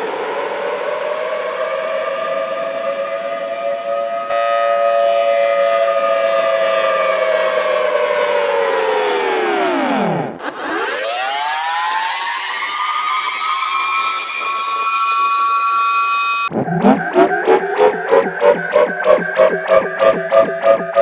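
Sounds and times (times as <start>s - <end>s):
tornado warning siren: 0.0s - 21.0s.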